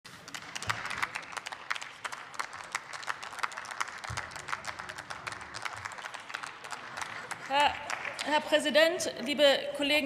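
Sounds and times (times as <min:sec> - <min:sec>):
people applauding: 0:00.1 - 0:08.9.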